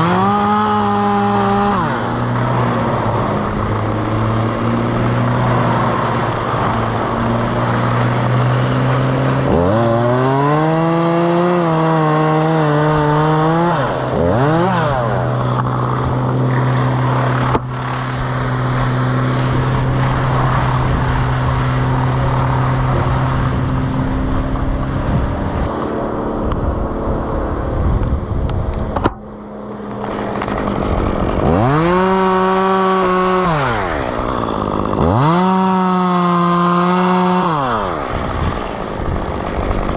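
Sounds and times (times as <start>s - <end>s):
chainsaw idling and revving: 0.0s - 27.7s, 29.2s - 39.9s.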